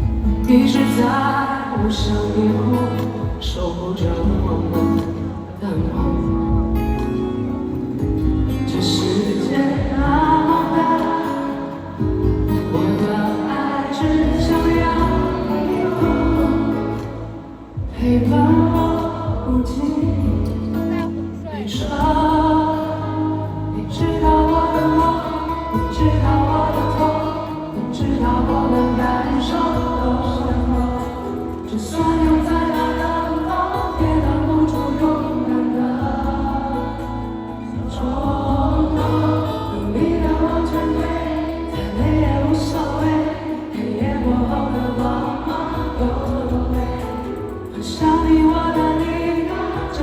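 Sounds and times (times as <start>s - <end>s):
crowd singing together: 0.0s - 50.0s
pop song over loudspeakers: 0.0s - 50.0s.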